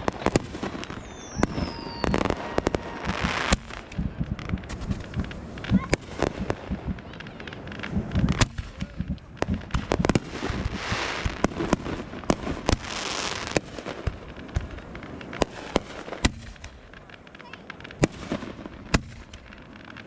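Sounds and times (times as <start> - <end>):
fireworks bangs: 0.0 - 20.0
fireworks hissing crackle: 0.0 - 20.0.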